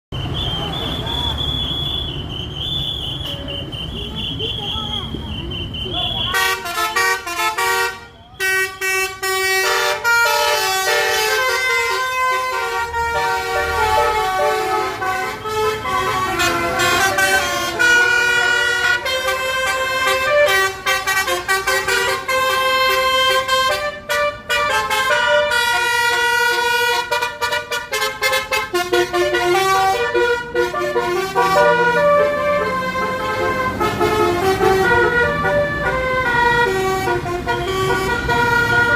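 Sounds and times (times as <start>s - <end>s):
bus multi-tone horn playing a tune: 0.3s - 38.9s.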